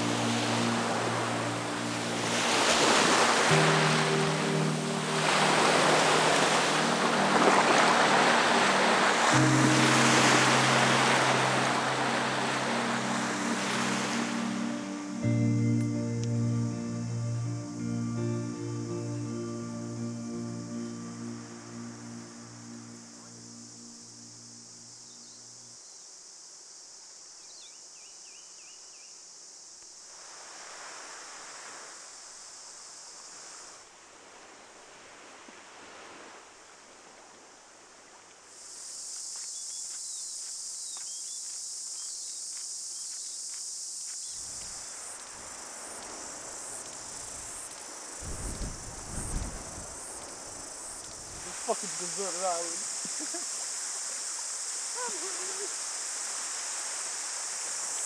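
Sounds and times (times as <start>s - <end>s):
shrill insect chorus: 0.0s - 33.9s, 38.4s - 58.0s.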